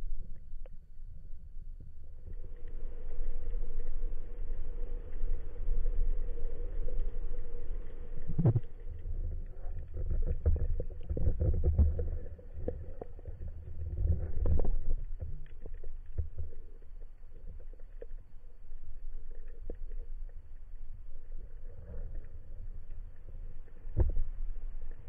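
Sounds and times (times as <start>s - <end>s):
muffled underwater rumble: 0.0s - 25.0s.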